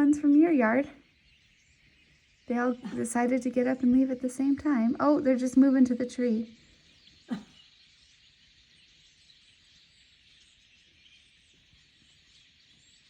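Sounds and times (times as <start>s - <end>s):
flock of small birds chirping: 0.0s - 13.0s.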